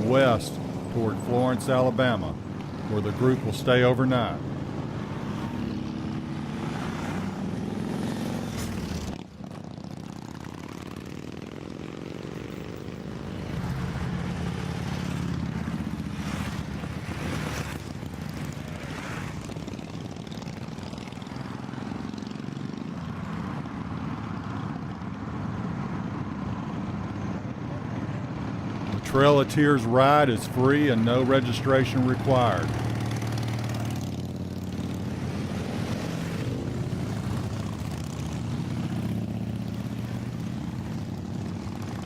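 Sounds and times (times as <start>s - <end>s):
motorcycles passing: 0.0s - 42.0s
vehicle engine and road noise: 0.0s - 42.0s.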